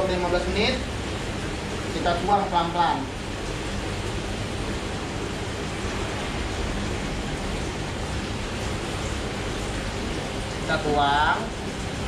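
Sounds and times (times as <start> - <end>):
water rushing in aquarium: 0.0 - 12.0.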